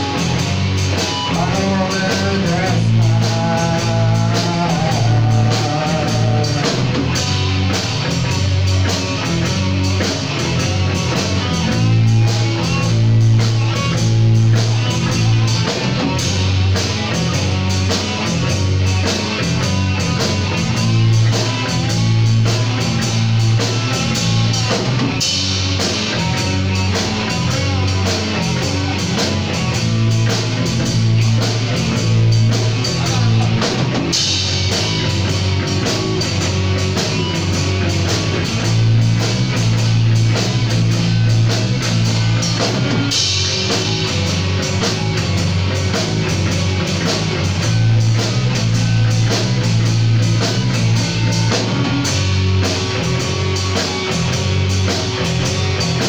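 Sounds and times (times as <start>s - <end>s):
bass guitar: 0.0s - 56.0s
drum kit with cymbals: 0.0s - 56.0s
electric guitars: 0.0s - 56.0s.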